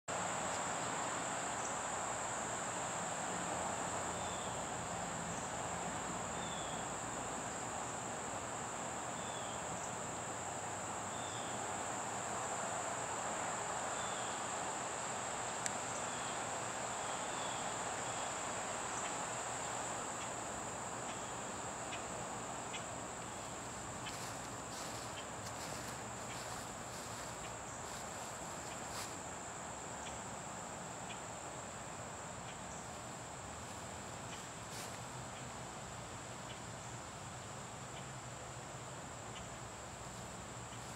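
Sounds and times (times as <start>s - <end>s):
background hiss: 0.1s - 40.9s
insects trilling: 0.1s - 40.9s.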